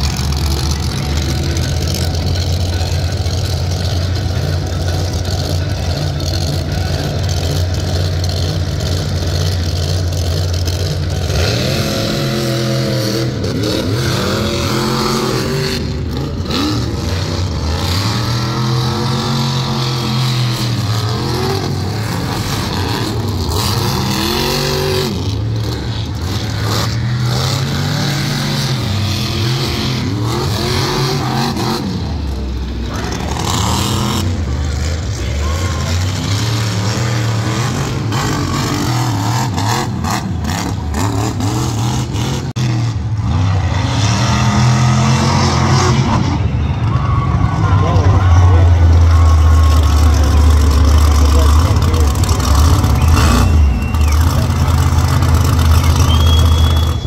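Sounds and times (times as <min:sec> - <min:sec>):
monster truck engines idling: 0:00.0 - 0:57.0
truck engine revving: 0:00.0 - 0:57.0.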